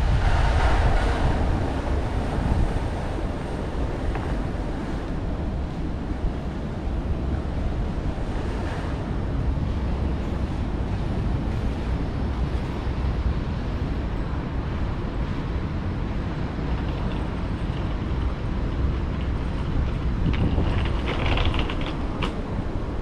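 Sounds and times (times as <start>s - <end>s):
traffic noise: 0.0s - 23.0s
wind rumbling on microphone: 0.0s - 23.0s.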